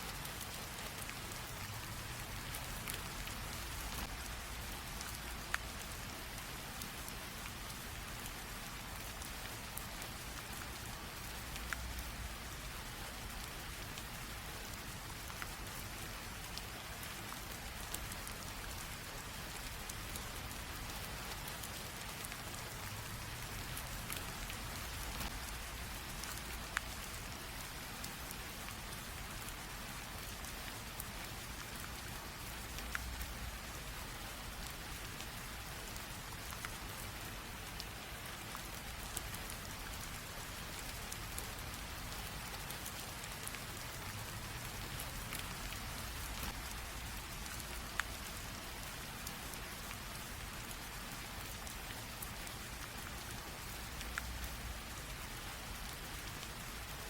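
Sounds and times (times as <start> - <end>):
light rain hissing: 0.0 - 57.0
raindrops ticking on a surface: 0.0 - 57.0.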